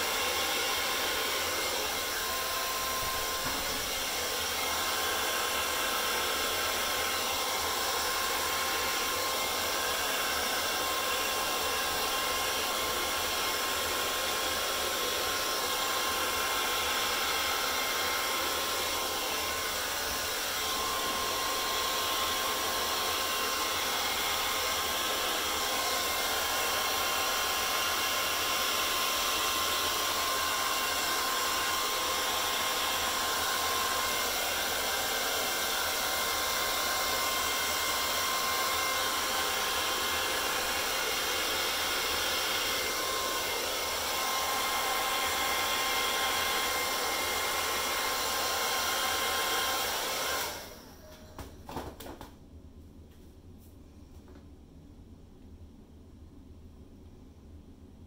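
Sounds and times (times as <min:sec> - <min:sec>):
hair dryer running: 0:00.0 - 0:52.1.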